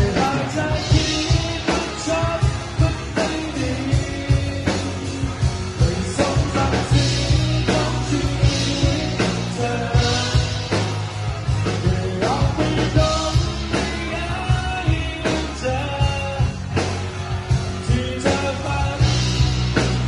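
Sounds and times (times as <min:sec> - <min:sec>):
person singing: 0:00.0 - 0:11.0, 0:11.6 - 0:16.8, 0:17.6 - 0:19.9
bass guitar: 0:00.0 - 0:20.0
drum kit beat: 0:00.0 - 0:20.0
electric guitar: 0:00.0 - 0:20.0.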